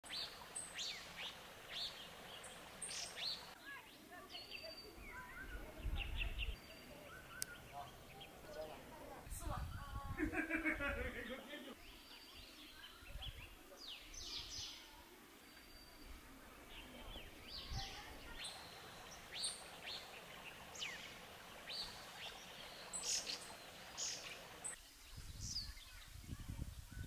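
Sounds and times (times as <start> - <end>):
small birds chirping: 0.0 - 10.5, 11.2 - 27.0
faint outdoor hiss: 0.0 - 27.0.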